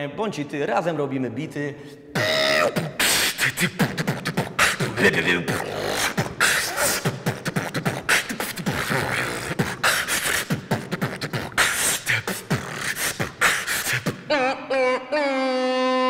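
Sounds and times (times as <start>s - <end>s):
beatboxing: 2.1s - 16.0s.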